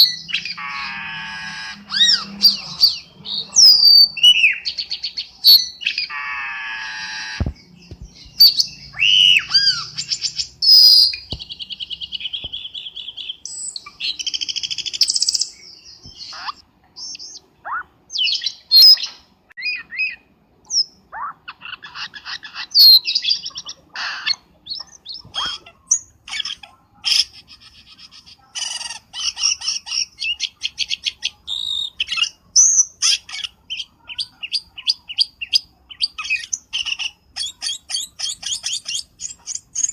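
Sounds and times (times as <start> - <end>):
bird calls with trills: 0.0 - 39.9.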